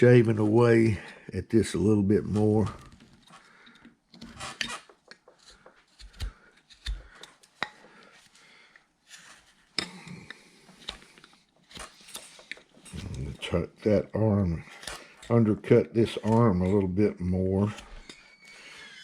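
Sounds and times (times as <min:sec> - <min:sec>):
carving knife scraping wood: 0:00.2 - 0:08.4, 0:09.0 - 0:19.0.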